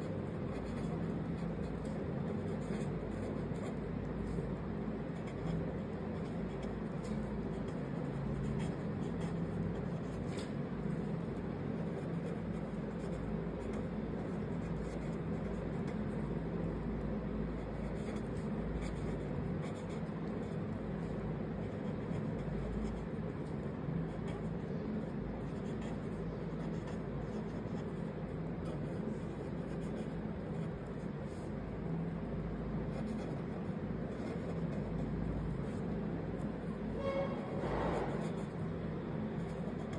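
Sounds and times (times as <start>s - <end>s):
felt-tip pen scratching on paper: 0.0s - 4.4s, 5.0s - 11.0s, 11.8s - 16.3s, 17.5s - 31.6s, 32.8s - 38.7s, 39.3s - 39.9s
low background hum: 0.0s - 39.9s.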